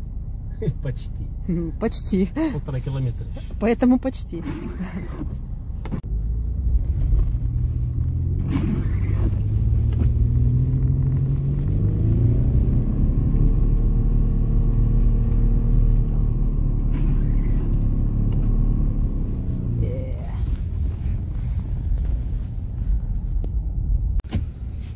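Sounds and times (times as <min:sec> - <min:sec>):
car engine rumbling: 0:00.0 - 0:24.9.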